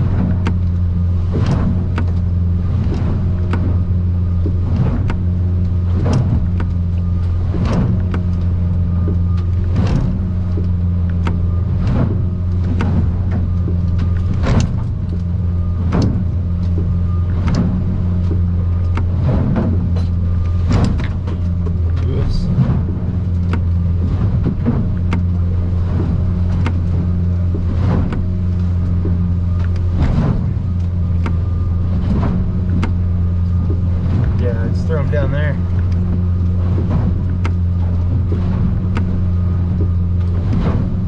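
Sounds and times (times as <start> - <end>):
hull slapping on waves: 0.0 - 41.0
outboard engine droning: 0.0 - 41.0.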